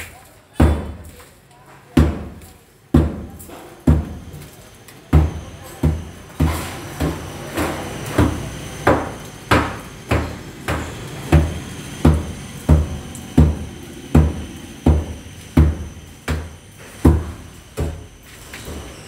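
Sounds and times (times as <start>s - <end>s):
hammer knocking on wall: 0.6s - 1.0s, 2.0s - 4.2s, 5.1s - 18.0s.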